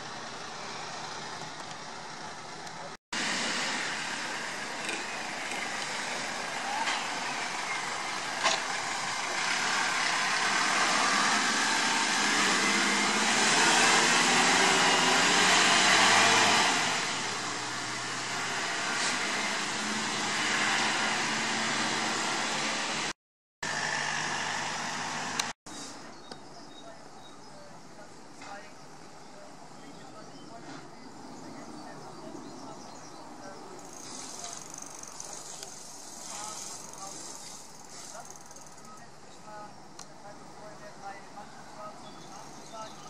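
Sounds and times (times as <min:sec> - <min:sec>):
road traffic driving past: 0:00.0 - 0:26.2, 0:28.1 - 0:43.0.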